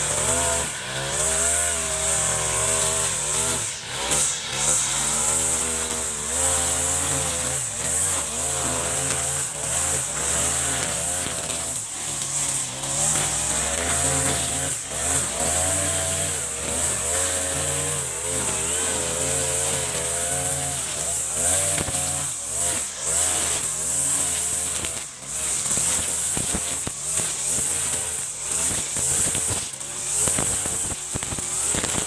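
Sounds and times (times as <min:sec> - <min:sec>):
brush cutter engine cutting grass: 0:00.0 - 0:32.0.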